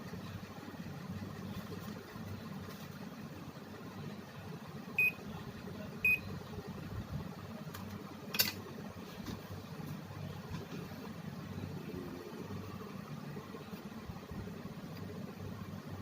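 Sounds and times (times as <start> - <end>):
air conditioner beeping: 0.0 - 16.0.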